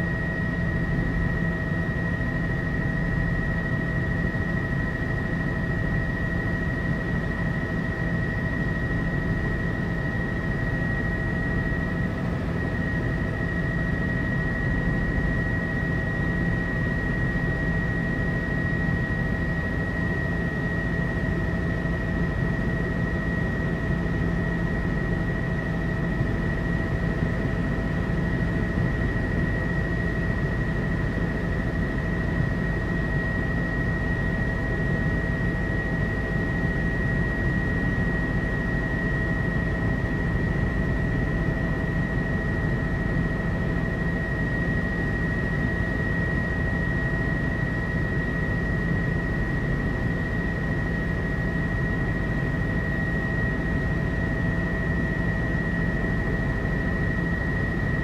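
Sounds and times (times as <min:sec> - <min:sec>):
helicopter engine and rotors drone: 0:00.0 - 0:58.0.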